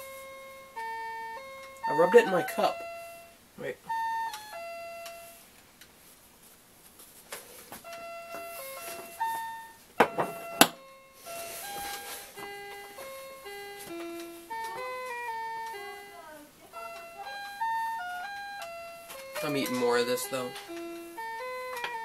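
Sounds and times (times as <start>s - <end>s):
electronic keyboard melody: 0.0s - 5.6s, 7.7s - 22.0s.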